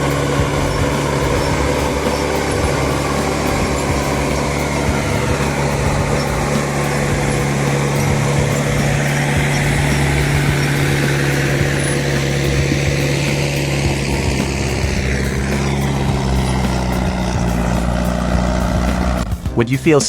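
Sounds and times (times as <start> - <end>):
diesel engine running under load: 0.0 - 19.6.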